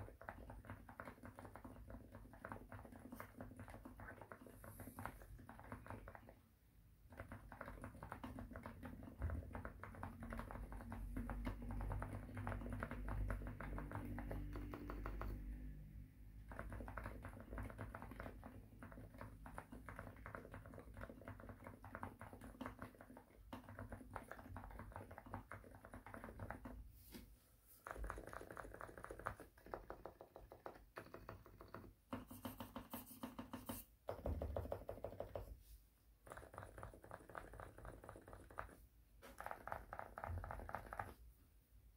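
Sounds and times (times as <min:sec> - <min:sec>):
quiet keyboard typing: 0:00.0 - 0:26.9, 0:27.8 - 0:35.6, 0:36.2 - 0:41.3.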